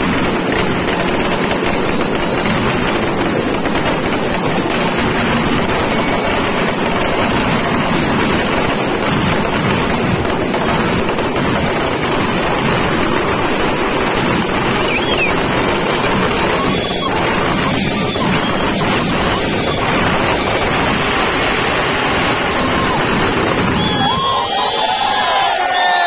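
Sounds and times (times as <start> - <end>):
firecrackers going off: 0.0 - 26.0.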